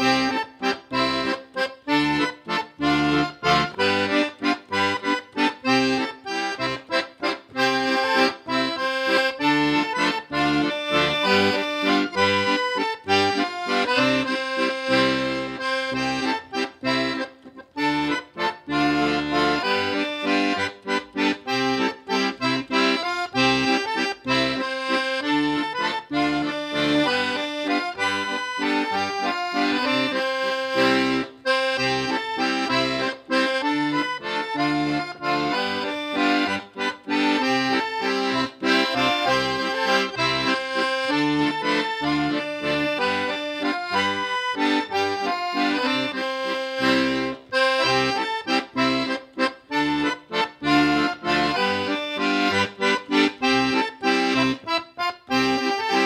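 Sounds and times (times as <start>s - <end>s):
instrumental background music: 0.0s - 56.0s.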